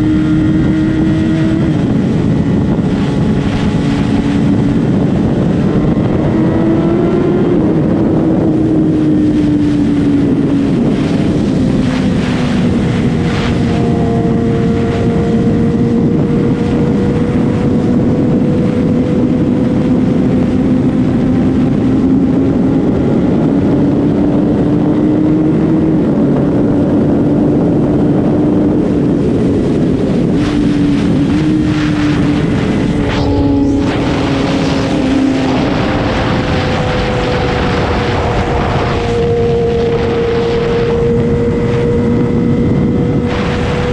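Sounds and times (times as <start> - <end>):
motorcycle engine running: 0.0 - 43.9
rushing wind noise: 0.0 - 43.9.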